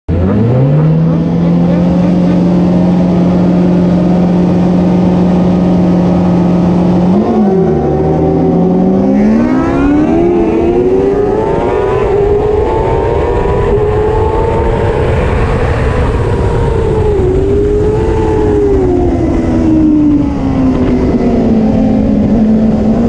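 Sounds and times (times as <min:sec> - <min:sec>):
motorcycle engine revving: 0:00.1 - 0:23.0.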